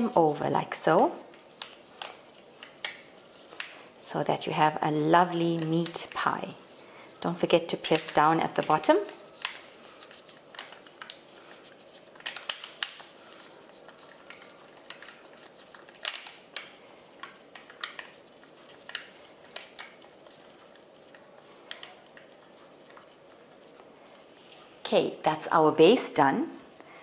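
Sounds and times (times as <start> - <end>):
aluminium foil crinkling: 0.0 - 27.0.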